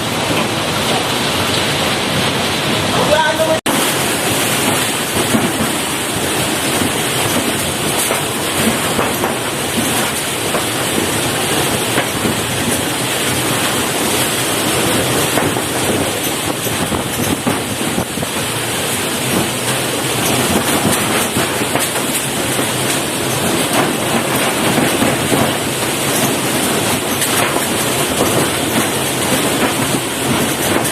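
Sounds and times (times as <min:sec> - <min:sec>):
rain: 0:00.0 - 0:30.9.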